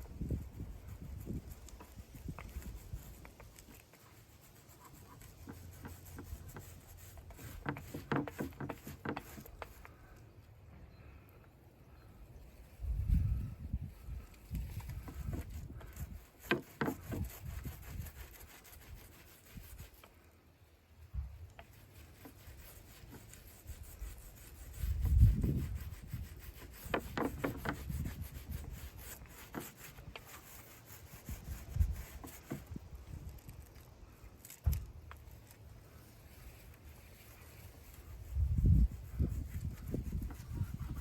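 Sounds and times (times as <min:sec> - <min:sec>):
rubbing and scraping: 0:00.0 - 0:10.4, 0:12.6 - 0:20.4, 0:21.0 - 0:41.0.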